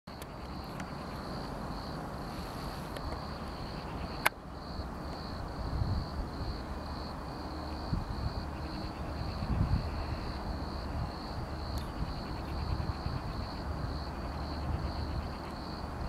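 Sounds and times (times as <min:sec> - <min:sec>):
crickets chirping: 0:00.1 - 0:16.0.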